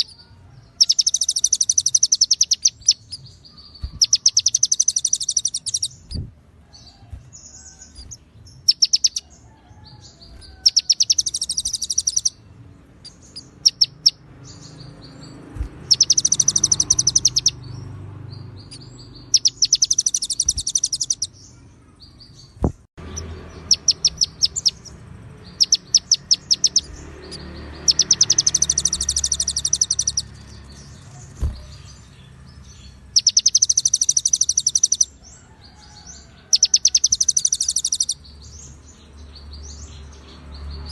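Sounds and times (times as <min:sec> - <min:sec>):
songbird singing buzzy trills: 0:00.0 - 0:40.9.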